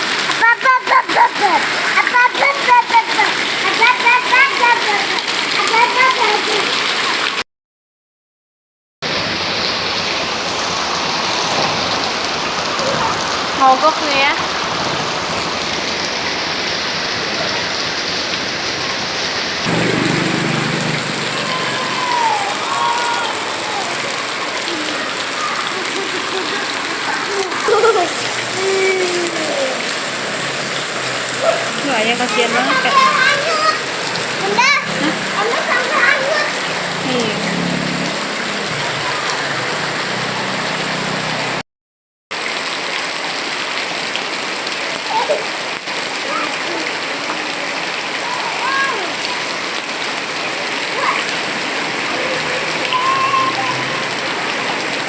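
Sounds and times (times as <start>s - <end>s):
heavy rain pouring: 0.0s - 7.4s, 9.1s - 41.6s, 42.3s - 55.0s.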